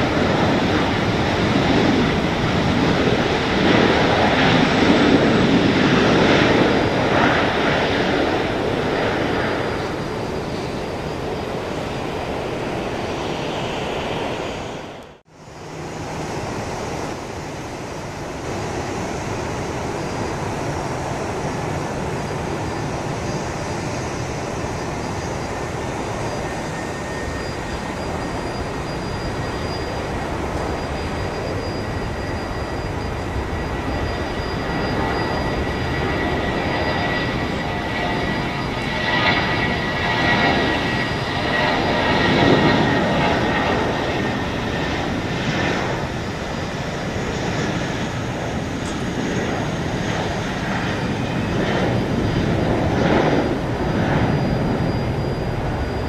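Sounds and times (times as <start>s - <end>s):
jet engines rumbling: 0.0s - 56.0s
jet hum with high whine: 0.0s - 56.0s.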